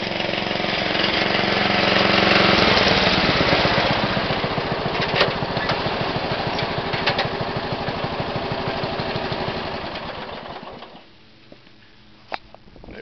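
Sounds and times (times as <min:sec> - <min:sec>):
lawn tractor engine running: 0:00.0 - 0:11.1.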